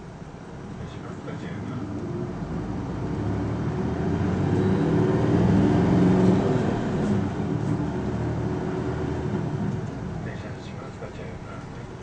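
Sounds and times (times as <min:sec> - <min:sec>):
bus diesel engine: 0:00.0 - 0:12.0.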